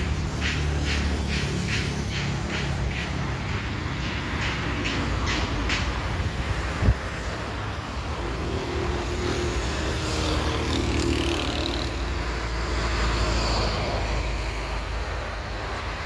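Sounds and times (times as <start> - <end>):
distant jet airliner whine: 0.0 - 16.0
road traffic rumble: 0.0 - 16.0.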